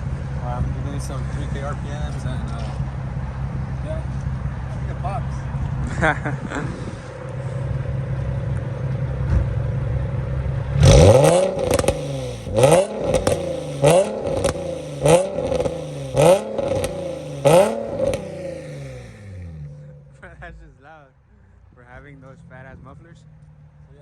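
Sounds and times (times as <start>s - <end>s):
car engine revving: 0.0s - 20.8s, 21.6s - 24.0s.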